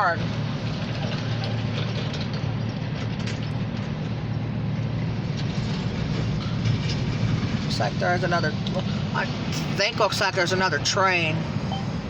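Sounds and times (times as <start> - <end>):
heavy vehicle rumbling: 0.0 - 12.0.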